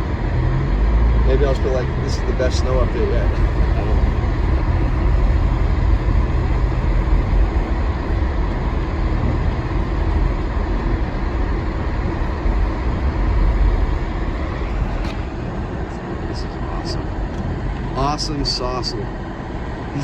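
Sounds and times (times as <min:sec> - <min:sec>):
car driving on snowy road: 0:00.0 - 0:20.0.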